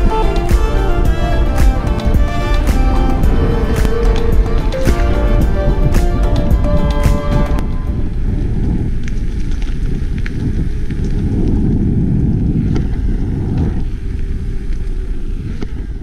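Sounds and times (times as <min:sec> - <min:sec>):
bicycle clicking over bumps: 0:00.0 - 0:16.0
wind rushing over microphone: 0:00.0 - 0:16.0.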